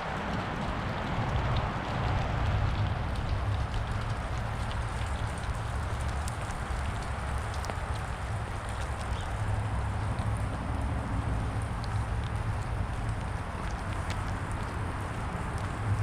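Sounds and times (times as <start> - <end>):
low steady rumble: 0.1 - 16.0.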